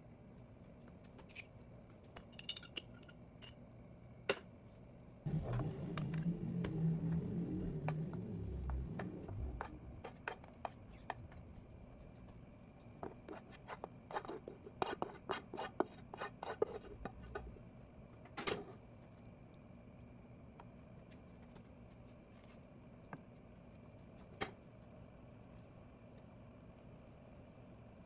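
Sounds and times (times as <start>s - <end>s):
low steady background noise: 0.0s - 28.0s.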